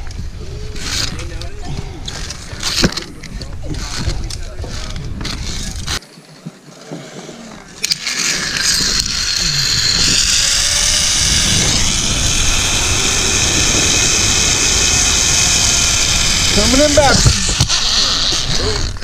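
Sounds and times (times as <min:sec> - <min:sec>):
wind on microphone: 0:00.0 - 0:06.0, 0:07.5 - 0:19.0
zip line trolley on cable: 0:00.0 - 0:06.0, 0:07.2 - 0:19.0.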